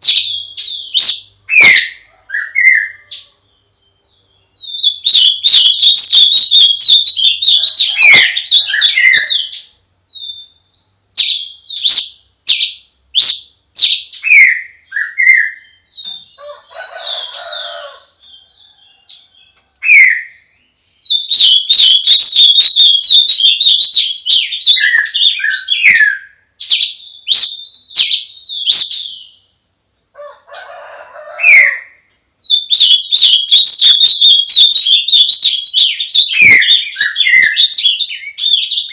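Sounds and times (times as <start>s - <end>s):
songbirds trilling and whistling: 0.0s - 38.9s.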